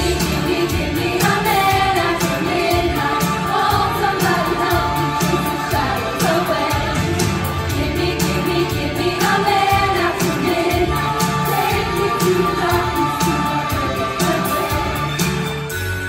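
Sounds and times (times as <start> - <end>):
female chorus singing disco-pop: 0.0 - 15.5
instrumental accompaniment: 0.0 - 16.0.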